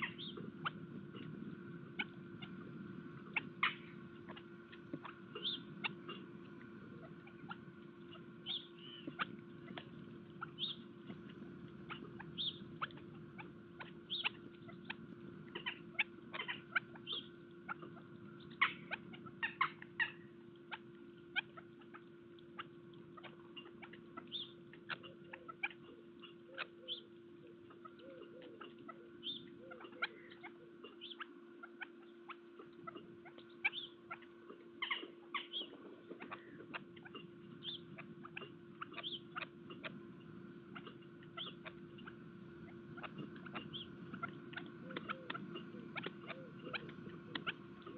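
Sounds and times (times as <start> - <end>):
small birds chirping: 0.0 - 47.9
steady low hum: 0.0 - 47.9.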